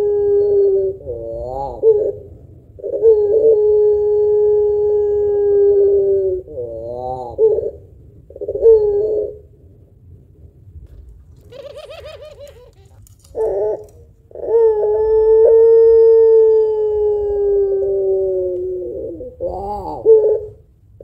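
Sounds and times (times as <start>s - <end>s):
dove cooing: 0.0s - 9.5s, 10.9s - 21.0s.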